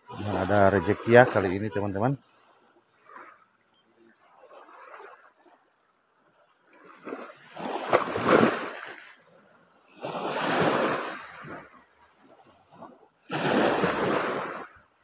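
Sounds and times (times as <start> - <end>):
small waves splashing: 0.0 - 15.0.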